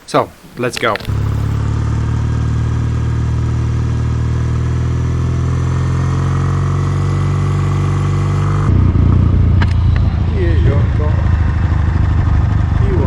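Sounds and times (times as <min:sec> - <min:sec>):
motorcycle engine idling: 0:01.0 - 0:13.0.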